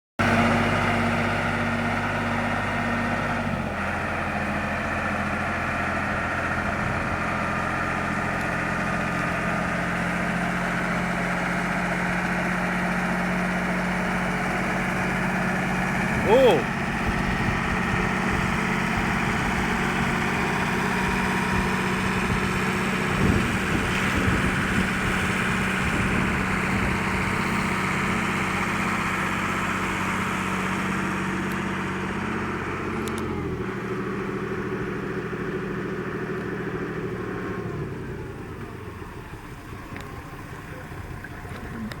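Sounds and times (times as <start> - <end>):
vehicle engine running: 0.2 - 42.0.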